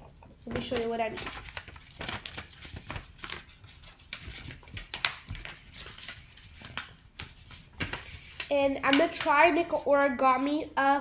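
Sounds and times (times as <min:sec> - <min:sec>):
paper crinkling and crackling: 0:00.0 - 0:10.3.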